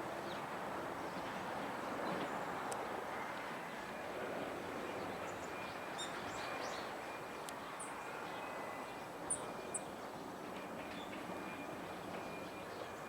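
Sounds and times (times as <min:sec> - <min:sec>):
city background hum: 0:00.0 - 0:13.0.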